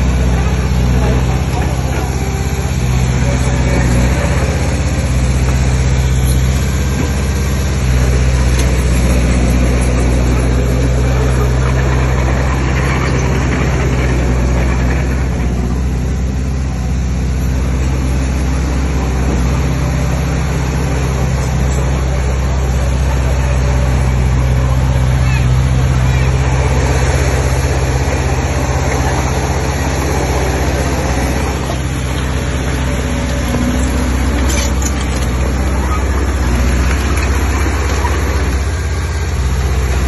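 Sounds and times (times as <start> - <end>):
diesel engine low drone: 0.0 - 40.0.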